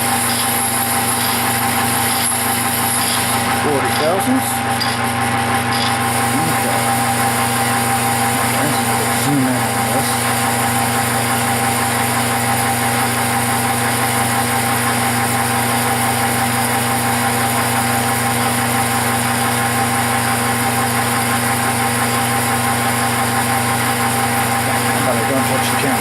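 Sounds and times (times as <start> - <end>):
metal lathe humming with whine: 0.0 - 26.0.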